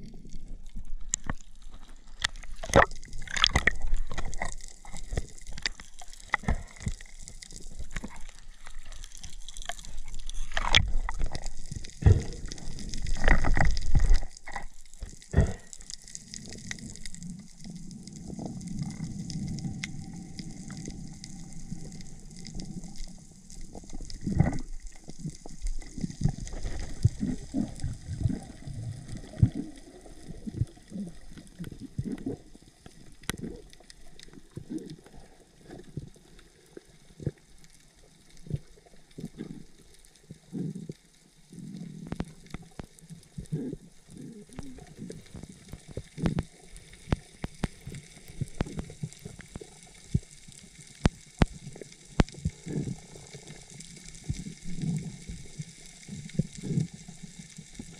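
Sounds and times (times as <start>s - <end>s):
water sloshing and gurgling: 0.0s - 57.9s.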